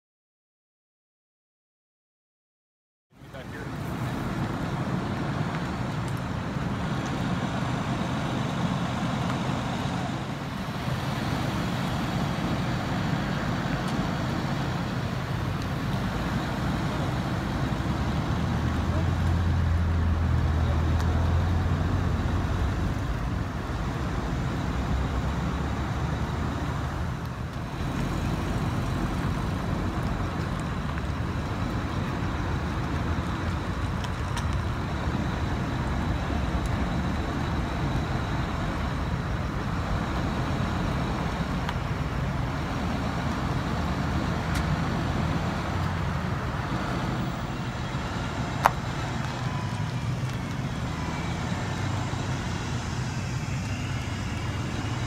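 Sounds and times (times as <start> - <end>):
vehicles passing: 3.1 - 55.0
low engine drone: 3.2 - 55.0.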